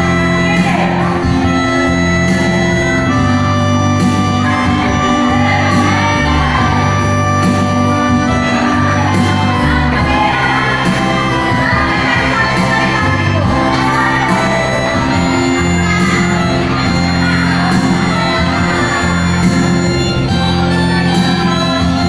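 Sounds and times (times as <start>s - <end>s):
held keyboard chords: 0.0s - 22.0s
moving bass line: 0.0s - 22.0s
voices singing: 0.0s - 22.0s.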